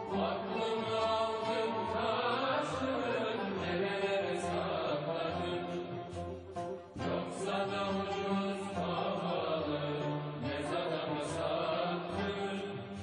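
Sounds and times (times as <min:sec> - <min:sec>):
background music with bass line: 0:00.0 - 0:13.0.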